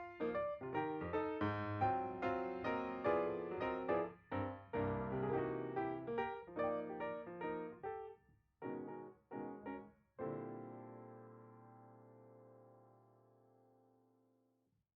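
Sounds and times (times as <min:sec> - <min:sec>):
piano chords: 0:00.0 - 0:13.1.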